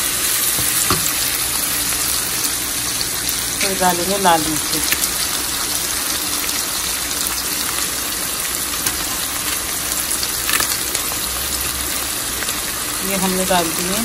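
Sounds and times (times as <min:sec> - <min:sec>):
onions frying in hot oil: 0:00.0 - 0:14.0.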